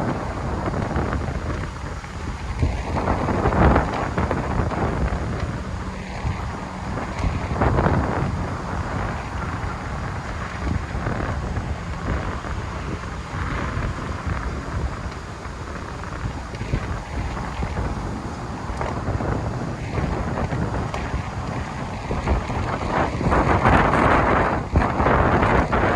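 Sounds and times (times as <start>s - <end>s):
storm wind buffeting microphone: 0.0s - 25.9s.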